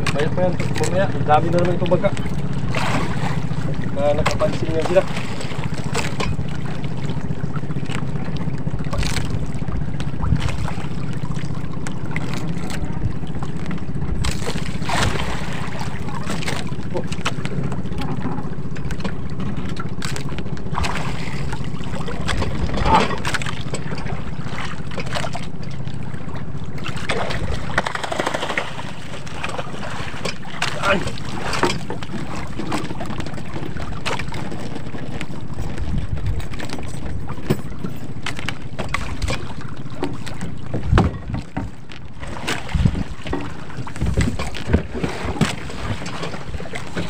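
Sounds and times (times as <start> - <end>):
sharp knocks against hull: 0.0 - 8.1, 8.8 - 25.5, 26.8 - 47.0
boat motor humming: 0.0 - 47.0.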